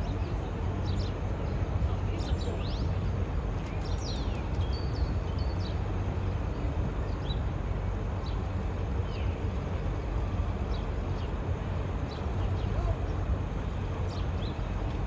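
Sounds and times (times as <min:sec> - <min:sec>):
small birds chirping: 0:00.0 - 0:07.5, 0:08.1 - 0:15.0
low rumble of city ambience: 0:00.0 - 0:15.0.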